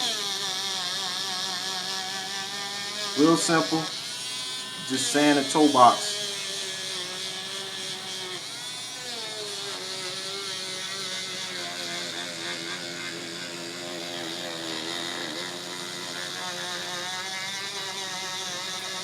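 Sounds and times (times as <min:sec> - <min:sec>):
electric sanding tool running: 0:00.0 - 0:19.0.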